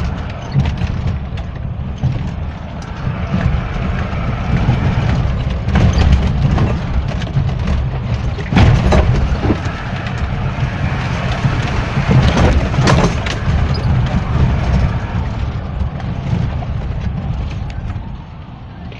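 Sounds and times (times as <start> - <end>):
vehicle rumble from inside cabin: 0.0 - 18.9.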